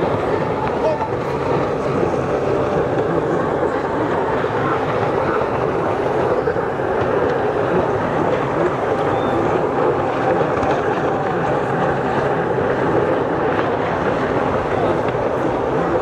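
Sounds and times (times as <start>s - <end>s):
racing jet ski engines droning: 0.0s - 16.0s.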